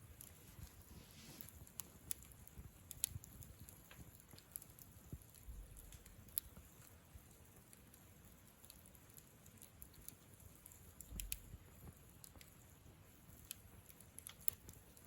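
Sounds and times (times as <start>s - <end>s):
burning wood popping: 0.0s - 15.0s
faint rumble of flames: 0.0s - 15.0s.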